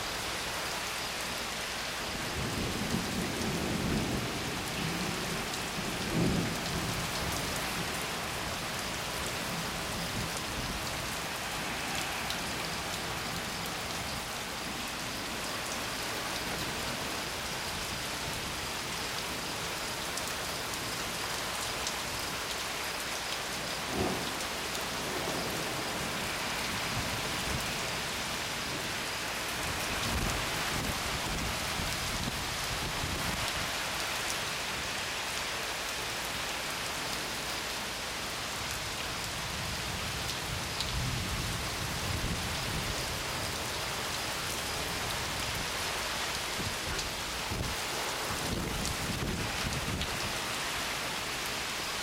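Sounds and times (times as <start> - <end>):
heavy rain falling: 0.0 - 52.0.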